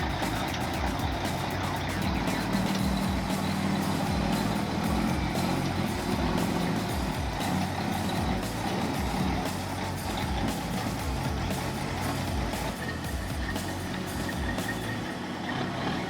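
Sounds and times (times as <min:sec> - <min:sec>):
background music: 0:00.0 - 0:16.0
truck engine running: 0:00.0 - 0:16.0.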